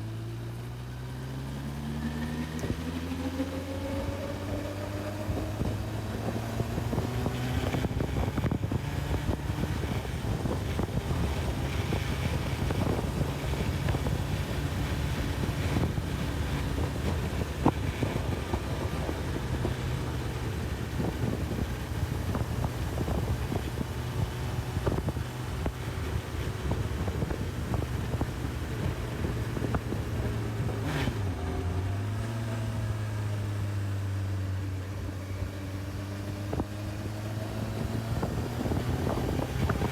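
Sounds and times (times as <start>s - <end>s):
motorcycle engine cruising: 0.0s - 39.9s
wind rushing over microphone: 1.8s - 39.9s.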